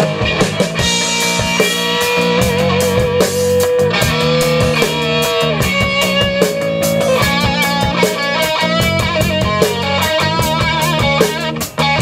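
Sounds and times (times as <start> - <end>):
bass guitar: 0.0 - 12.0
drum kit beat: 0.0 - 12.0
electric guitar long notes: 0.0 - 12.0.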